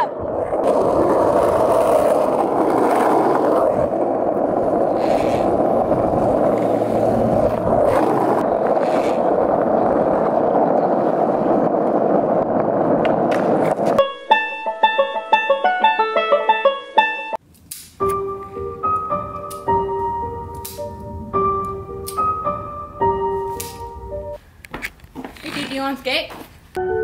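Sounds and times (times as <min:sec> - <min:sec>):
skateboard wheels rolling on asphalt: 0:00.0 - 0:15.0, 0:18.4 - 0:26.9.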